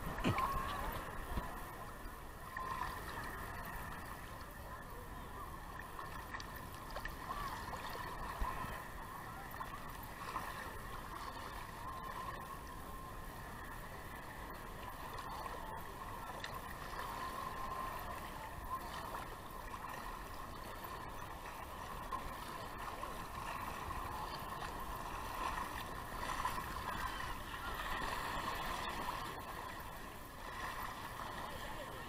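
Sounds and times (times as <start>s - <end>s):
sea water sloshing and lapping: 0.0s - 32.0s.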